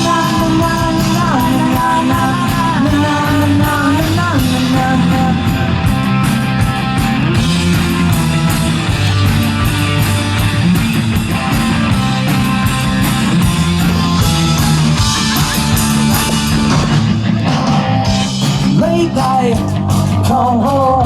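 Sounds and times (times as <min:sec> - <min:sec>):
electric guitar: 0:00.0 - 0:21.0
steady drum beat: 0:00.0 - 0:21.0.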